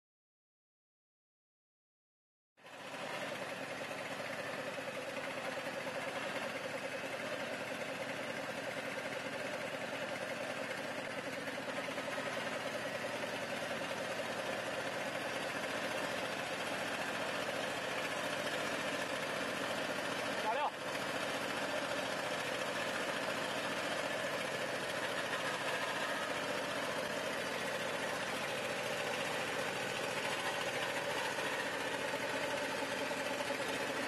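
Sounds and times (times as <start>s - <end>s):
gasoline engine running steadily: 2.6s - 34.0s.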